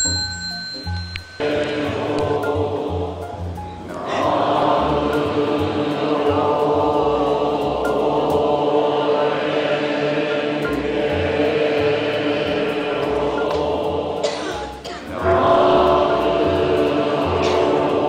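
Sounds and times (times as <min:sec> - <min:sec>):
voices chanting in unison: 0:01.4 - 0:18.0.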